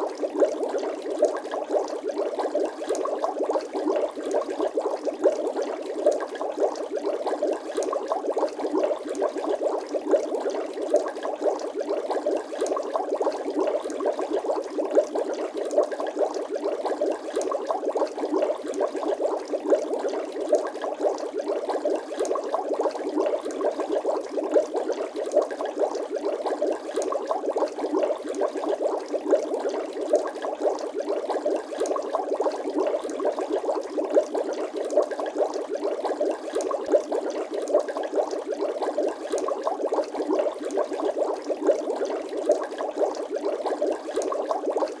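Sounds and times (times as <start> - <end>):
dense bubbling: 0.0 - 45.0.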